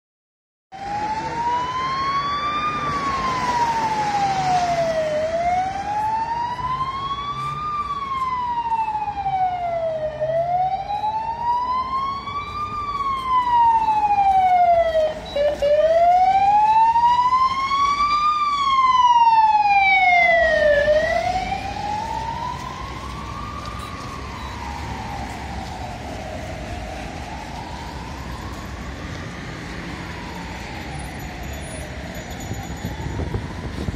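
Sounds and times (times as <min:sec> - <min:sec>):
ambulance siren wailing: 0:00.7 - 0:33.9
city traffic: 0:00.7 - 0:33.9.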